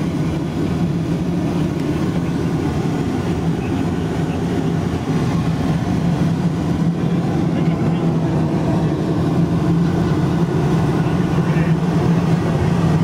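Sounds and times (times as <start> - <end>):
airplane cabin engine rush: 0.0 - 13.0.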